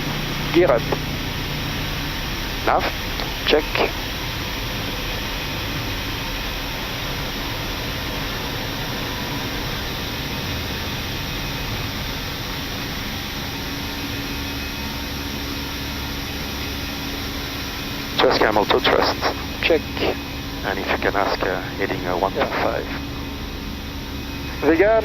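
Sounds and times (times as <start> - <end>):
jet engine noise: 0.0 - 25.0.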